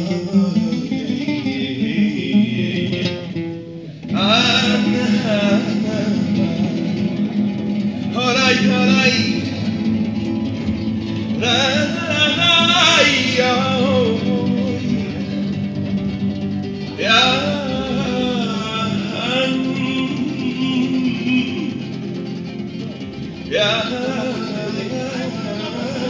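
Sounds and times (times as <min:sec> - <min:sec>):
man singing: 0:00.0 - 0:03.4, 0:04.0 - 0:26.0
acoustic guitar: 0:00.0 - 0:26.0.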